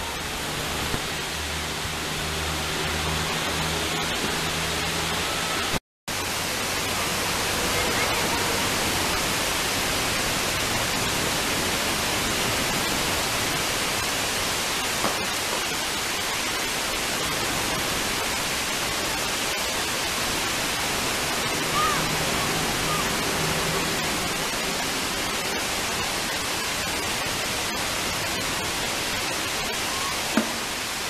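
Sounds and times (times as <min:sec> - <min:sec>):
water rushing over spillway: 0:00.0 - 0:31.0.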